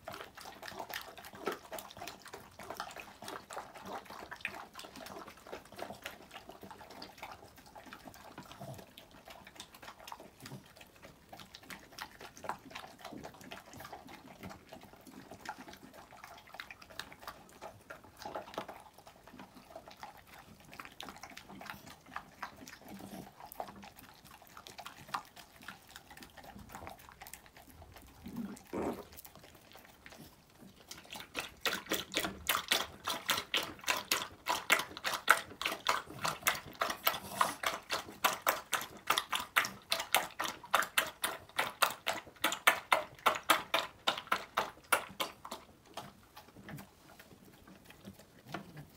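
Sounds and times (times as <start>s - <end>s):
dog lapping water: 0.0s - 48.9s
dogs chewing and licking: 0.0s - 48.9s.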